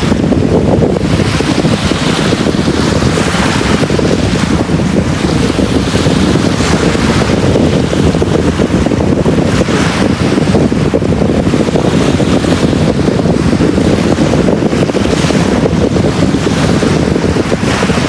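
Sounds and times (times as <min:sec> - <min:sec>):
low rumble of wind: 0:00.0 - 0:18.0
sea waves washing onto beach: 0:00.0 - 0:18.0.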